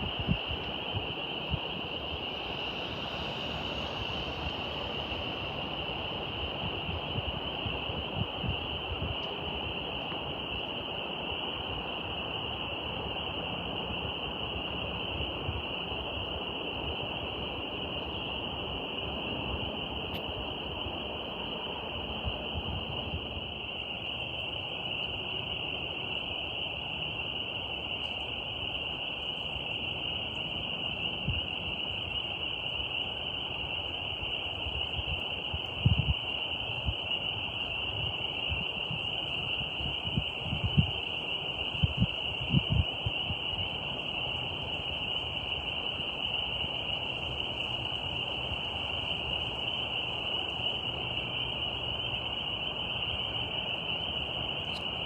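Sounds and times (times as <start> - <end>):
night insects trilling: 0.0 - 55.0.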